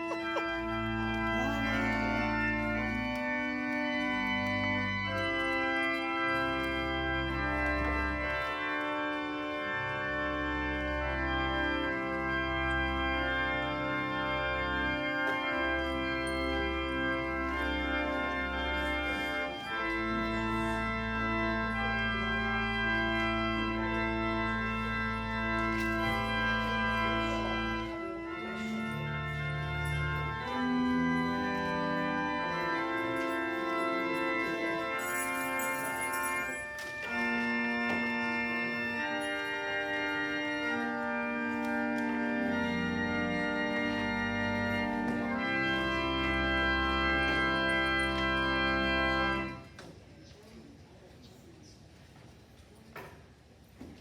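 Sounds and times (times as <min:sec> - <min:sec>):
held organ bass note: 0:00.0 - 0:49.6
organ playing slow chords: 0:00.0 - 0:49.7.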